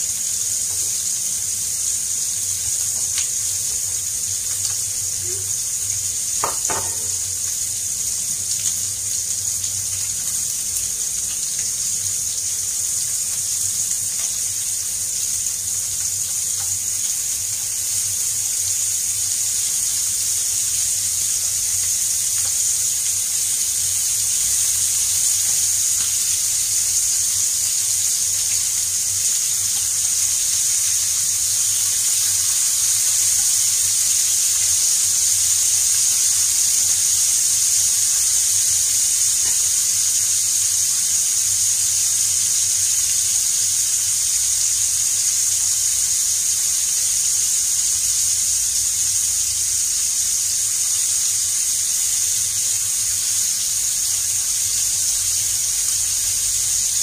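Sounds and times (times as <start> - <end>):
ribs sizzling in oil: 0.0 - 57.0.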